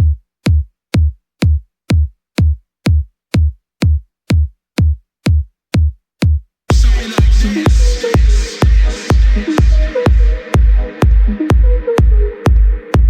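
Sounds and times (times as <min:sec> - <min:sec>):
electronic kick drum beat: 0:00.0 - 0:13.0.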